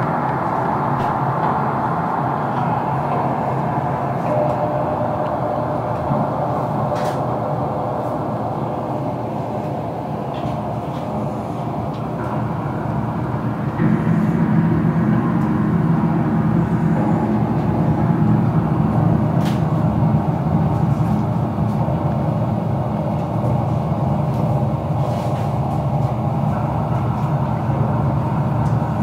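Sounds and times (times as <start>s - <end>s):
experimental noise music: 0.0s - 29.0s.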